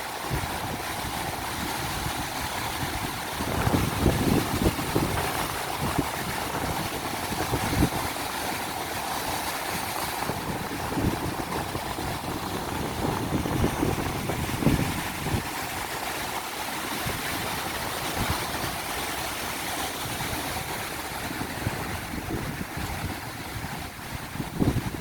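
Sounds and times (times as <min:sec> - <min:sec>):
ocean surf washing: 0:00.0 - 0:25.0
wind buffeting microphone: 0:00.0 - 0:25.0.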